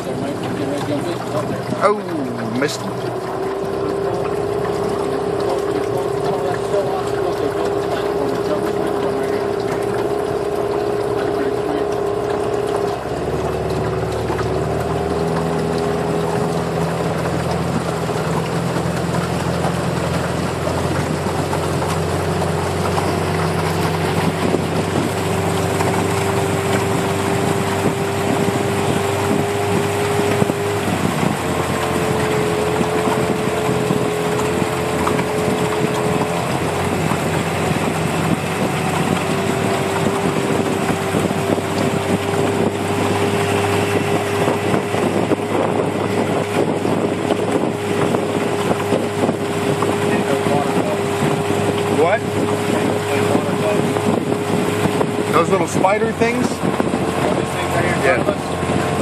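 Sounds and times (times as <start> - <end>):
boat motor humming: 0.0 - 59.0.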